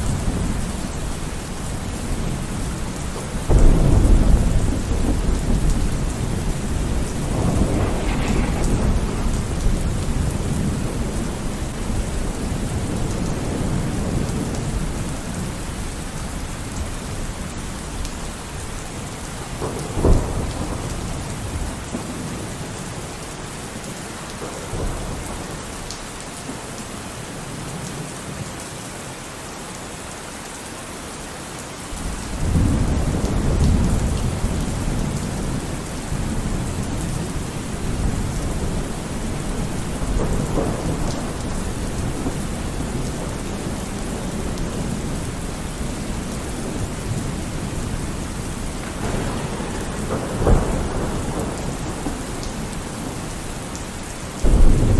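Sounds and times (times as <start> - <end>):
thunder rumbling: 0.0 - 23.2, 32.0 - 54.9
steady rain falling: 0.0 - 54.9.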